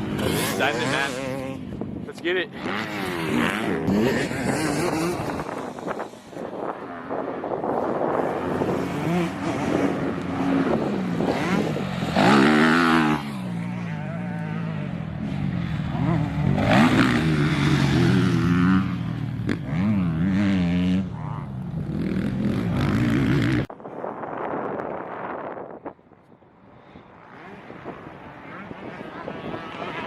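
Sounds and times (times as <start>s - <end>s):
dirt bike engine revving: 0.0s - 23.7s, 26.8s - 30.0s
wind: 0.0s - 30.0s.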